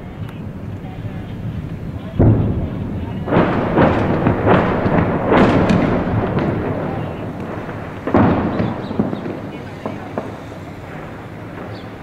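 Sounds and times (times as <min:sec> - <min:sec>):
echoing gunshots: 0:00.1 - 0:12.0.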